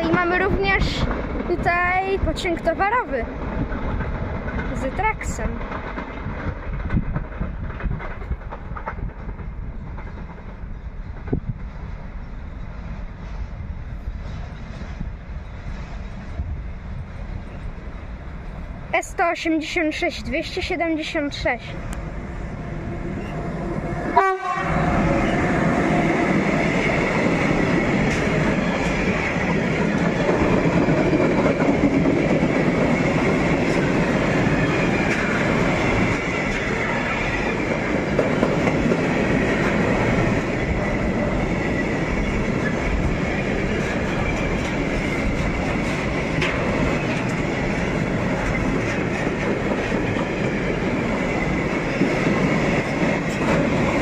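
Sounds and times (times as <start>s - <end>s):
clickety-clack over rail joints: 0.0s - 54.0s
train wheels rumbling: 0.0s - 54.0s.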